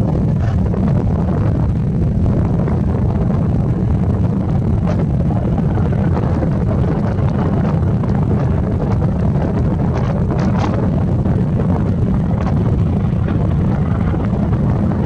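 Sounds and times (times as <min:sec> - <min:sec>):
helicopter lifting off: 0:00.0 - 0:15.0
jet aircraft rumble: 0:00.0 - 0:15.0
wind buffeting microphone: 0:00.0 - 0:15.0.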